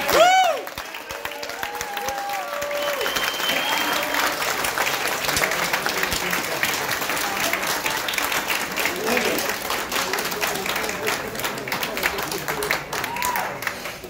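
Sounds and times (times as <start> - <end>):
people cheering: 0.0 - 13.9
audience applauding: 0.0 - 14.0.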